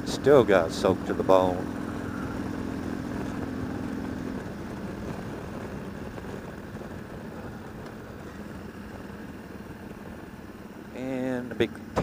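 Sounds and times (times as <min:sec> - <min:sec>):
motorcycle engine running: 0:00.0 - 0:12.0
steady rushing noise: 0:00.0 - 0:12.0.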